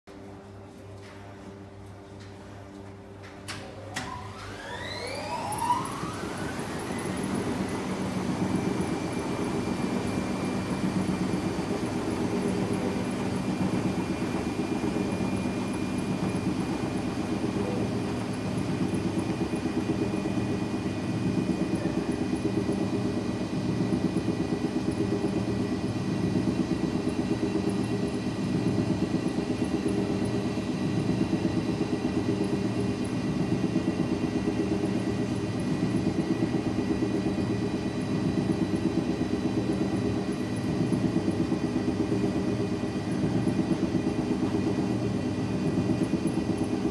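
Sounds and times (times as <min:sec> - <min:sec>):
washing machines spinning: 0:00.1 - 0:46.9.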